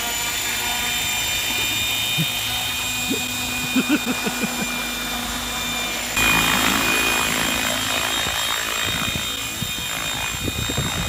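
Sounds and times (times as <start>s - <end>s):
model helicopter whine: 0.0s - 11.0s.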